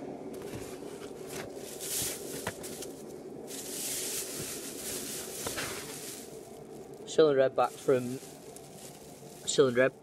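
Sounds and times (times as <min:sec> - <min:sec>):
plastic sheet rustling and crinkling: 0:00.4 - 0:10.0.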